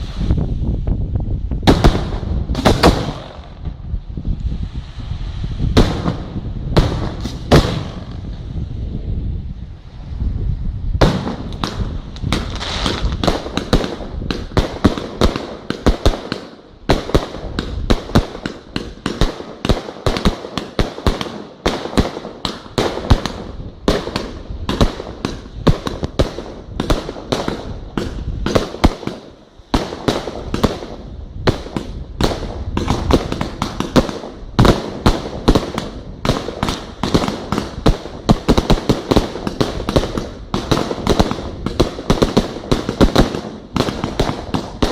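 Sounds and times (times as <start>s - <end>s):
fireworks bangs: 1.6s - 8.8s, 11.0s - 44.9s.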